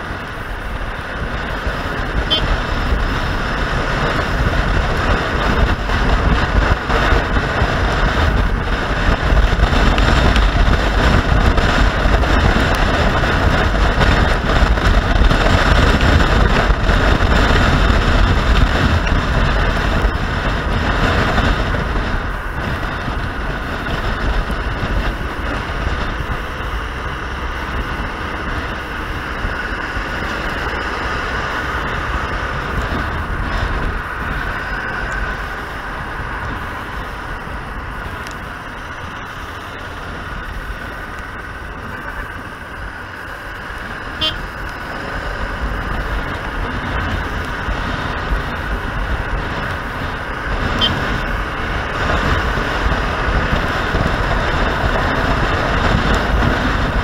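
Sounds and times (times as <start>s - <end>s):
motorcycle engine: 0.0s - 57.0s
road noise: 0.0s - 57.0s
wind rushing over microphone: 0.0s - 57.0s.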